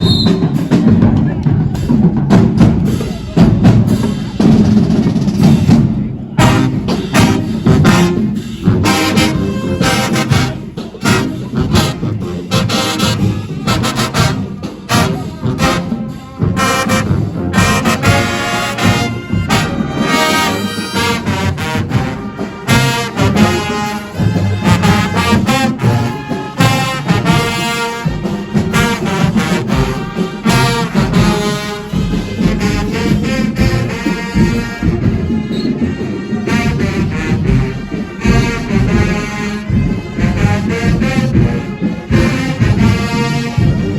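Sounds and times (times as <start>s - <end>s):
drumline beat: 0.0s - 43.9s
brass section playing: 6.3s - 43.9s.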